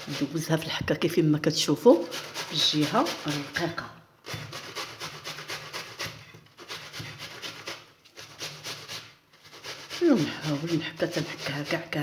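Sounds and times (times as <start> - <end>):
onion rasping on hand grater: 0.0 - 12.0.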